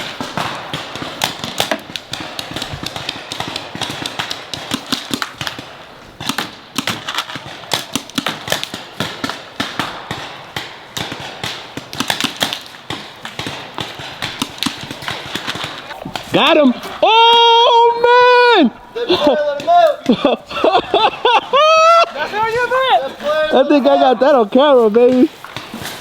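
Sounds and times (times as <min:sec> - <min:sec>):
paintball markers firing: 0:00.0 - 0:17.0, 0:19.1 - 0:20.3, 0:20.9 - 0:26.0.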